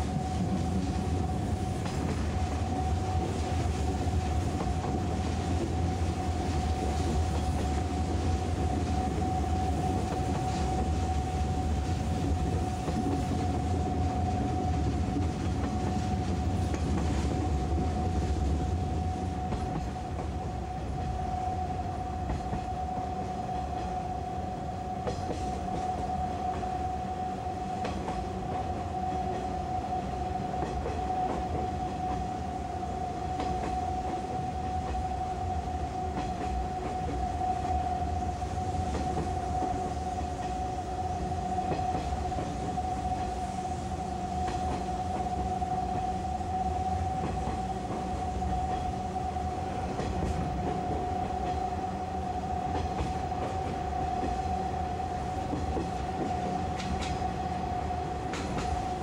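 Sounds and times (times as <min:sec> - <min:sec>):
train wheels rumbling on rail: 0:00.0 - 0:59.0
faint rail-joint clicks: 0:00.1 - 0:18.7, 0:19.4 - 0:21.2, 0:22.2 - 0:24.0, 0:25.0 - 0:26.8, 0:27.7 - 0:29.5, 0:30.5 - 0:32.3, 0:33.2 - 0:35.2, 0:36.1 - 0:38.0, 0:38.6 - 0:40.8, 0:41.4 - 0:51.9, 0:52.6 - 0:59.0.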